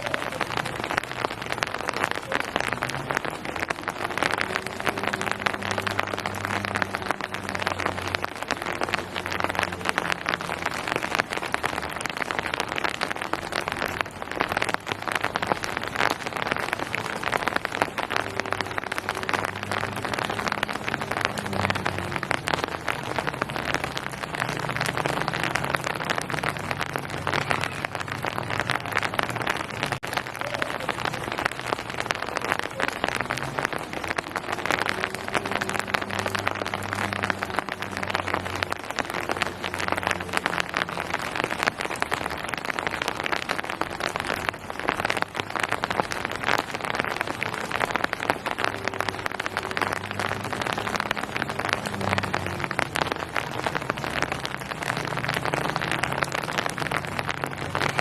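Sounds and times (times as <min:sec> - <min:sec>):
steady rain pitter-patter: 0:00.0 - 0:58.0.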